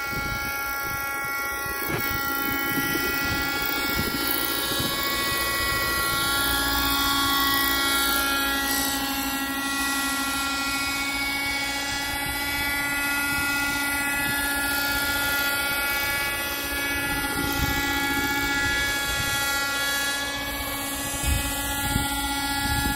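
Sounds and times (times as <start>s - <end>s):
model helicopter engine whine: 0.0s - 22.9s.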